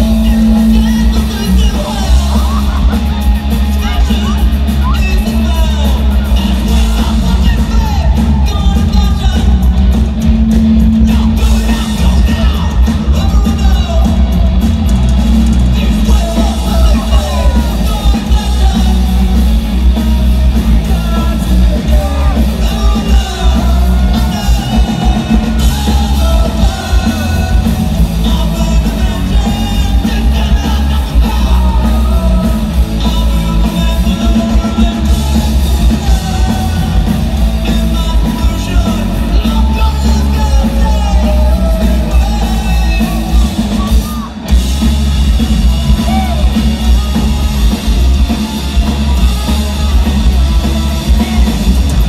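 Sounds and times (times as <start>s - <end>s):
man singing: 0.0s - 14.6s, 15.5s - 52.0s
bass guitar: 0.0s - 52.0s
drums: 0.0s - 52.0s
electric guitar: 0.0s - 52.0s.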